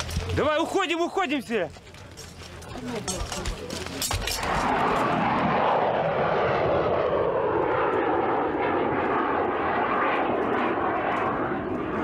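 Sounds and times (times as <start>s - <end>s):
jet aircraft passing overhead: 0.0s - 12.0s.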